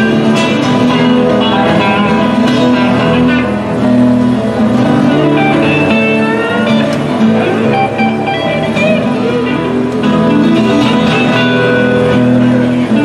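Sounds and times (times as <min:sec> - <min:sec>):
bass line: 0:00.0 - 0:13.0
electric guitar: 0:00.0 - 0:13.0
strummed acoustic guitar: 0:00.0 - 0:13.0.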